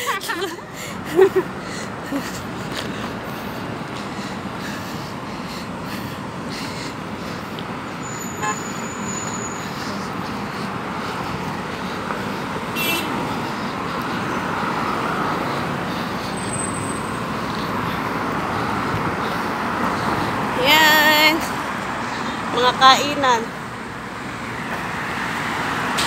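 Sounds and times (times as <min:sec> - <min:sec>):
passing cars traffic noise: 0:00.0 - 0:26.0.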